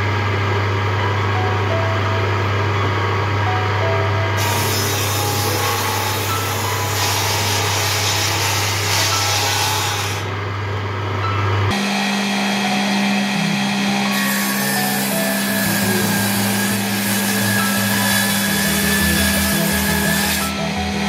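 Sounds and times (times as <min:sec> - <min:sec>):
table saw humming: 0:00.0 - 0:21.0.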